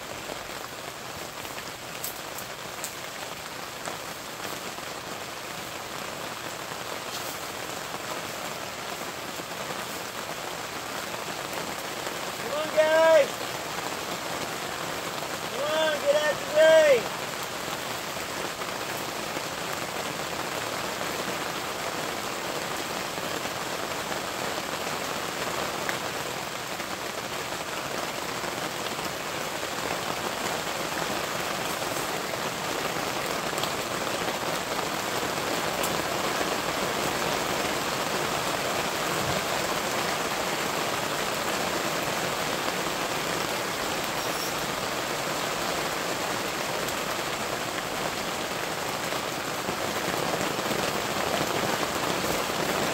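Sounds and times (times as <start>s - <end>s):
rain pattering on fabric roof: 0.0s - 52.9s.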